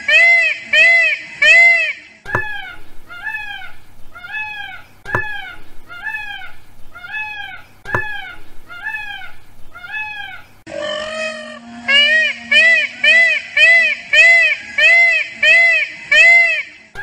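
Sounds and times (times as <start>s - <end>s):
peacock calling: 0.0s - 17.0s.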